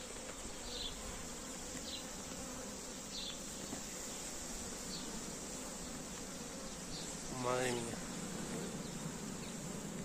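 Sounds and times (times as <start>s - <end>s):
bee swarm humming: 0.0s - 10.0s
short high bee buzzes: 0.0s - 10.0s.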